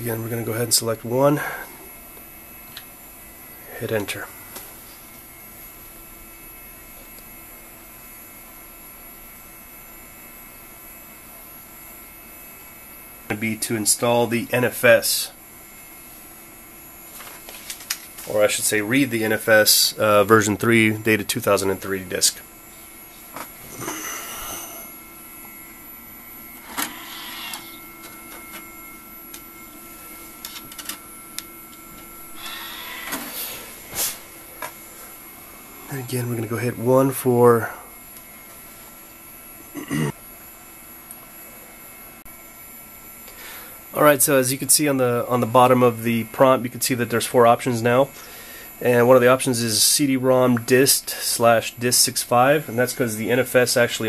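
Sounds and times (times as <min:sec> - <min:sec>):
cd drive whirring: 0:00.0 - 0:54.0
computer fan humming: 0:00.0 - 0:54.0.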